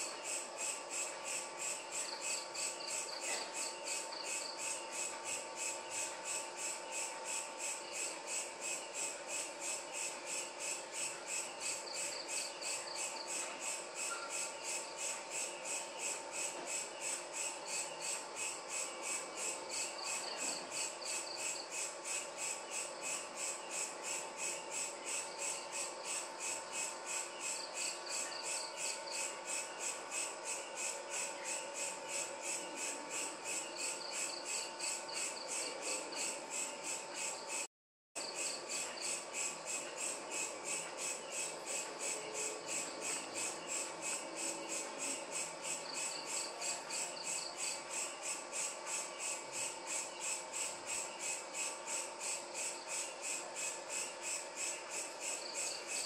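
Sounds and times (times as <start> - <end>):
crickets chirping: 0.0 - 56.0
insect trilling: 0.1 - 56.0.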